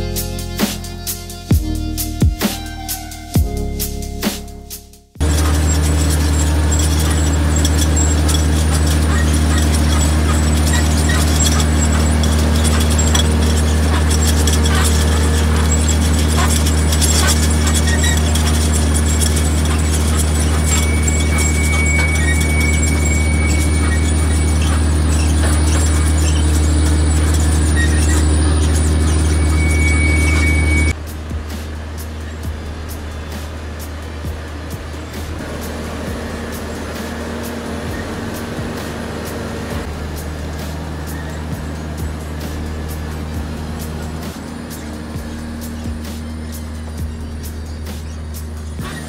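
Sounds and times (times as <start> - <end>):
harvester engine drone: 0.0 - 49.0
thin high whine: 0.0 - 49.0
machinery rattling: 5.2 - 49.0.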